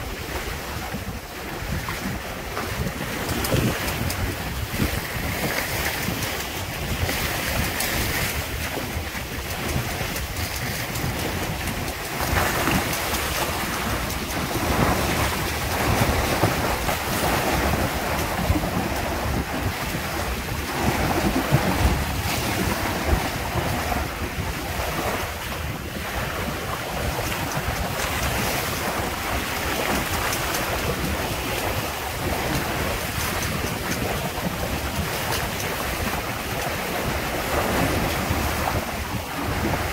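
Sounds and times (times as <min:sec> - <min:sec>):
choppy water splashing on hulls: 0:00.0 - 0:39.9
wind buffeting microphone: 0:00.0 - 0:39.9.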